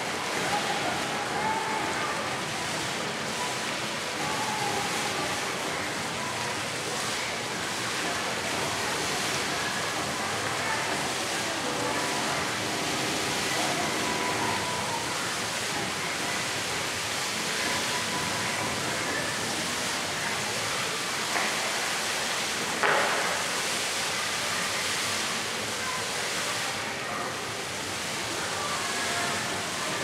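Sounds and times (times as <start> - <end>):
fountain water splashing: 0.0 - 30.0.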